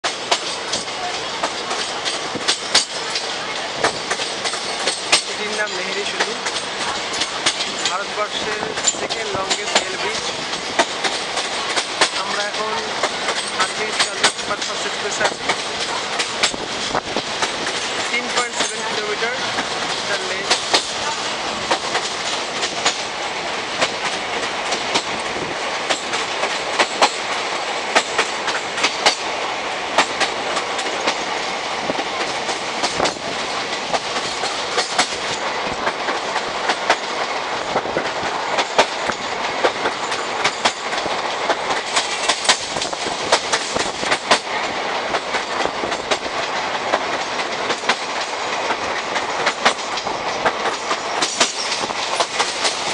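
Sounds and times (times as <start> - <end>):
train wheels rushing: 0.0 - 52.9
wheels clacking over rail joints: 0.0 - 52.9.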